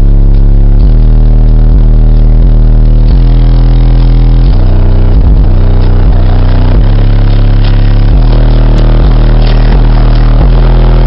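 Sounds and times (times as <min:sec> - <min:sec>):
loud distorted bass music: 0:00.0 - 0:11.0.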